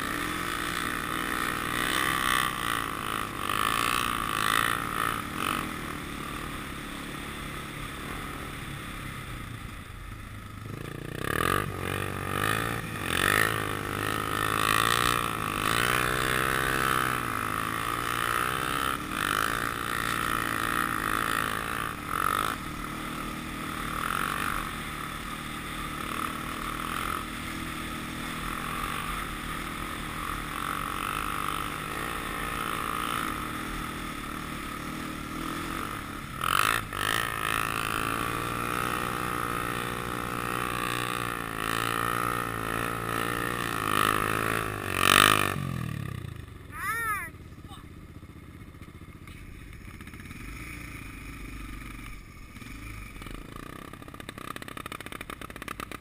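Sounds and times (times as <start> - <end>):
quad engine revving: 0.0 - 9.2, 10.6 - 56.0.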